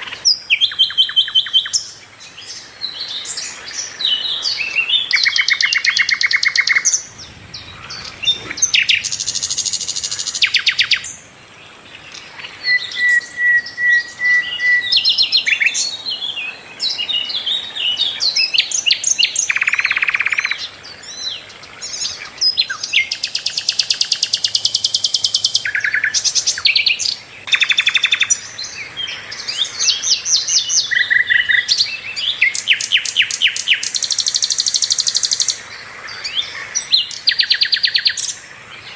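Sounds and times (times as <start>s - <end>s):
flycatcher singing trills and whistles: 0.0s - 11.3s, 12.0s - 35.6s, 36.2s - 38.9s.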